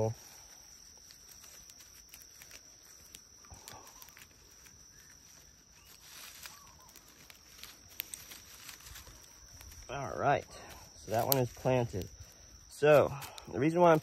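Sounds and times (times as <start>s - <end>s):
high-pitched insect drone: 0.0s - 14.0s
rustling of dry pine needles: 0.0s - 14.0s.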